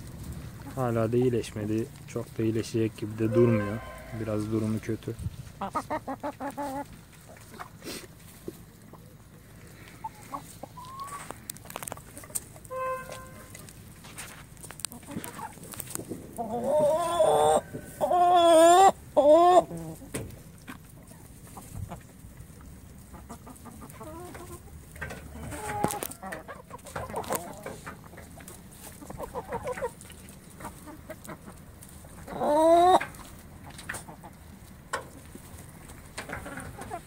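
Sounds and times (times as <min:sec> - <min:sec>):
chickens calling: 0:00.0 - 0:37.0
chickens clucking: 0:00.0 - 0:37.0.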